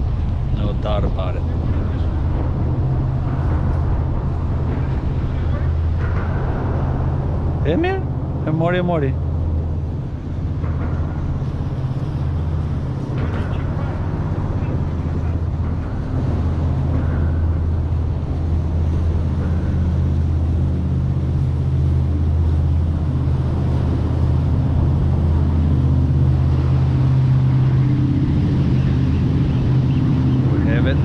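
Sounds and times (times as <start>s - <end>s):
engine droning steadily: 0.0s - 31.0s.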